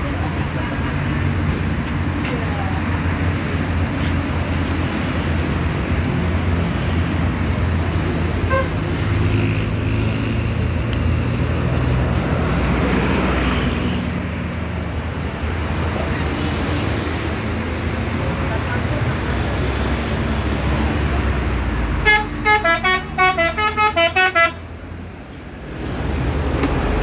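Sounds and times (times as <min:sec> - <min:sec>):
bus diesel engine rumbling: 0:00.0 - 0:27.0
road traffic: 0:00.0 - 0:27.0.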